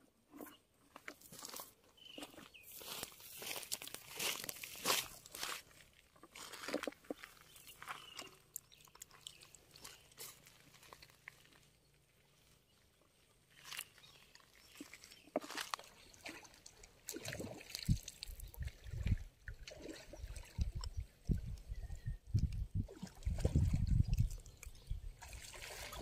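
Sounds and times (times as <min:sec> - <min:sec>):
water sloshing in a bucket: 0:00.4 - 0:12.1, 0:13.5 - 0:26.0.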